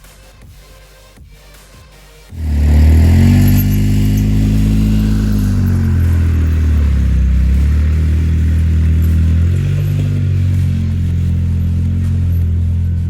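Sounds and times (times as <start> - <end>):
engine droning: 2.3 - 13.0.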